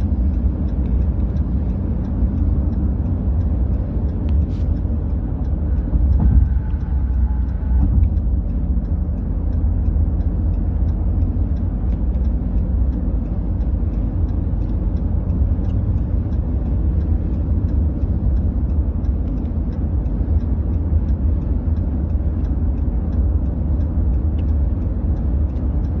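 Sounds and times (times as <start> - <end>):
vehicles idling rumble: 0.0 - 26.0.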